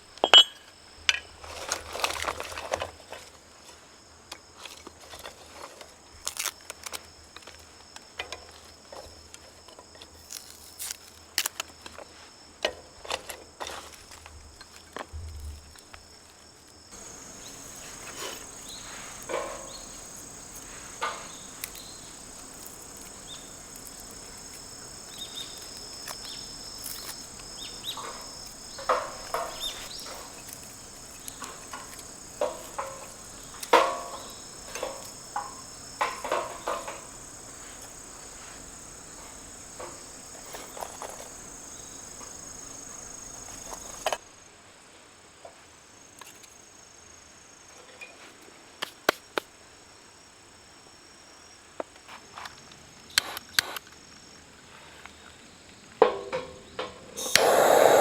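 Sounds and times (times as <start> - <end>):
insects chirring: 0.0 - 44.3, 50.2 - 58.0.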